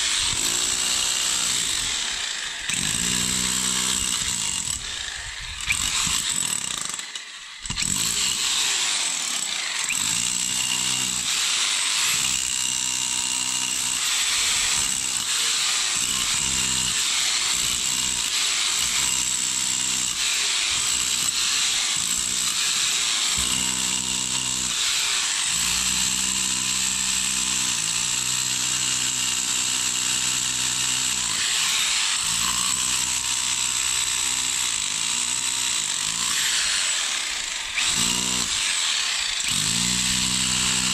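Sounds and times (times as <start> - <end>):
rotary hammer chiselling concrete: 0.0 - 40.9.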